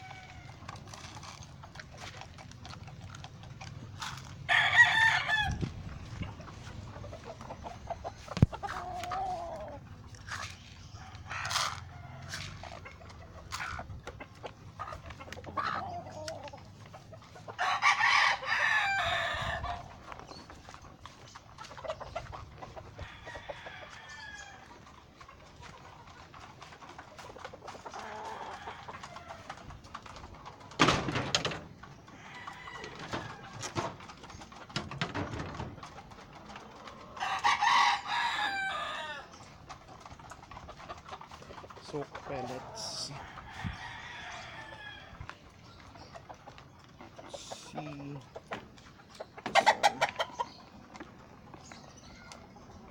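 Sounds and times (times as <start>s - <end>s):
roosters crowing: 0.0s - 48.2s, 49.4s - 52.9s
chicken clucking and short calls: 0.0s - 52.9s.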